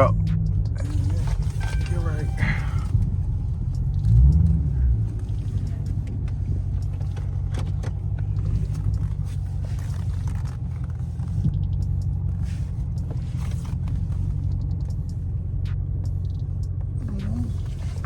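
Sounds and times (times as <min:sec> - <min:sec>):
engine running with low rumble: 0:00.0 - 0:18.0.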